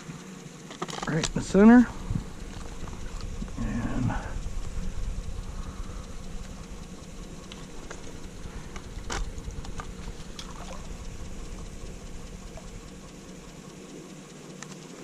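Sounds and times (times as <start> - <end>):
steady low rumble: 0.0 - 15.0
faint water patter: 0.1 - 15.0.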